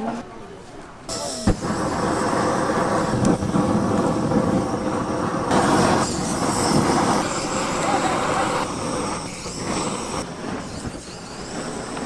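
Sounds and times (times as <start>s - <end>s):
gas pan roaring and sizzling: 1.1s - 12.0s.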